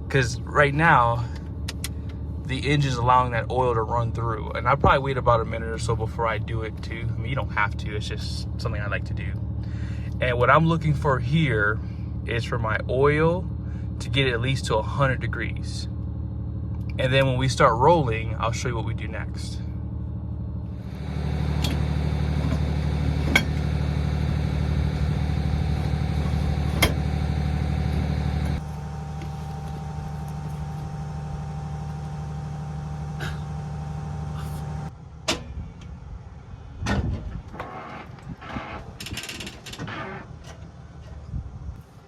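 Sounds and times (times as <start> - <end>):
diesel engine idling: 0.0 - 36.8.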